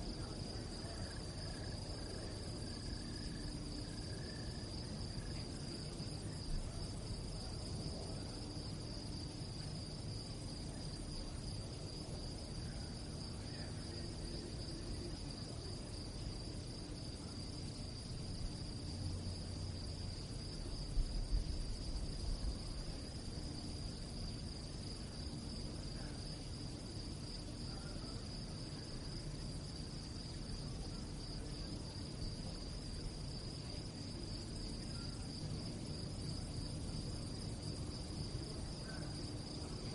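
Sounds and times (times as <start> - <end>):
crickets chirping: 0.0 - 39.9
low background rumble: 0.0 - 39.9.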